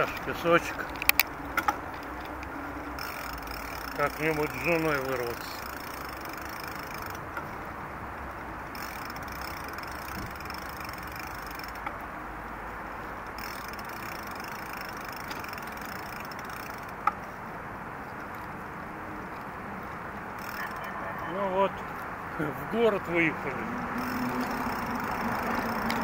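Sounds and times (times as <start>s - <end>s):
bicycle rolling over asphalt: 0.0s - 26.0s.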